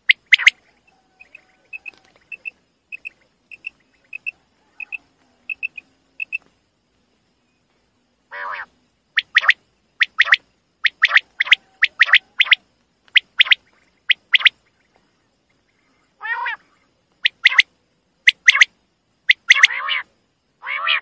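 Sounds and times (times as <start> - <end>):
quail calling: 0.0 - 6.5, 8.3 - 17.7, 18.3 - 18.7, 19.3 - 21.0.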